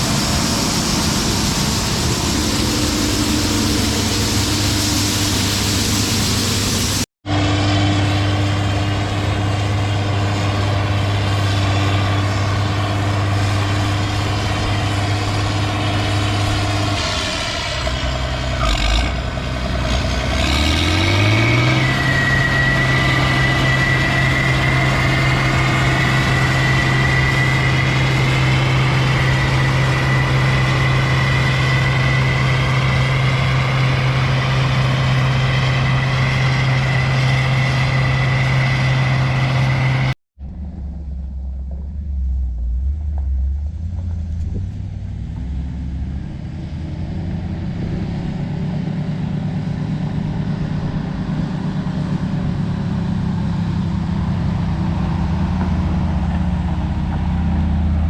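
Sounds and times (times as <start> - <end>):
dull engine sound: 0.0 - 58.0
heavy engine running with whine: 0.0 - 58.0.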